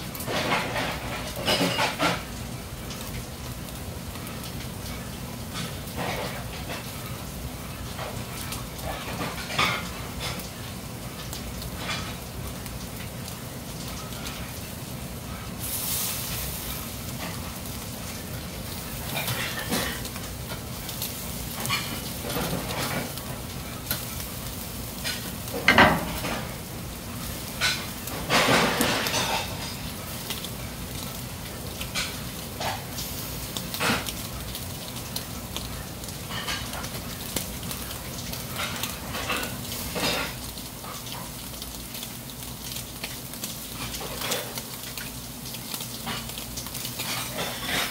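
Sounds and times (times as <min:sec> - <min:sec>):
fish sizzling on a grill: 0:00.0 - 0:47.9.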